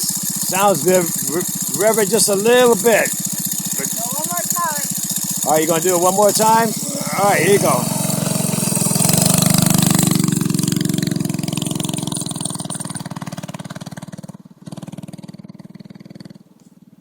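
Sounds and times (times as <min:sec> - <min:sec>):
minibike engine pulling away: 0:00.0 - 0:17.0.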